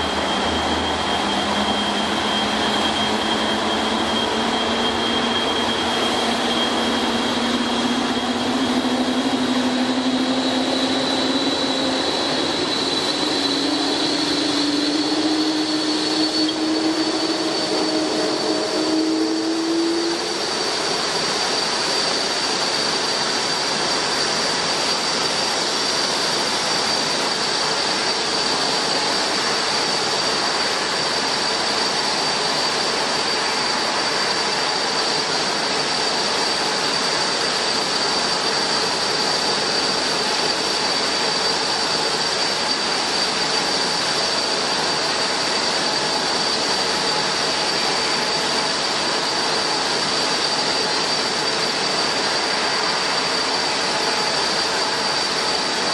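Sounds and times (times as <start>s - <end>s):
constant high whine: 0.0s - 55.9s
jet engines running: 0.0s - 55.9s.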